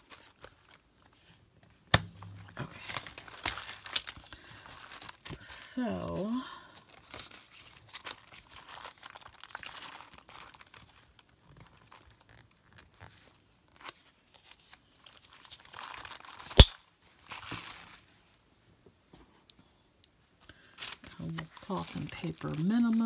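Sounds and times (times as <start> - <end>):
paper and plastic rustling: 0.0 - 18.4, 20.4 - 23.0.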